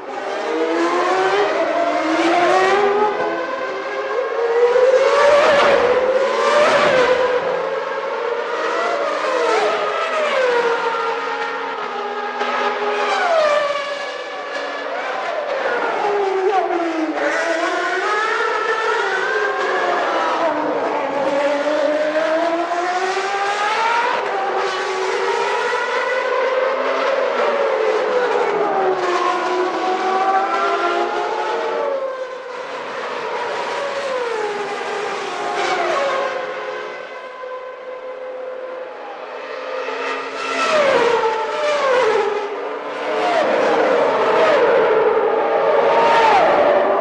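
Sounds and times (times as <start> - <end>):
racing car engines at high revs: 0.0 - 47.0.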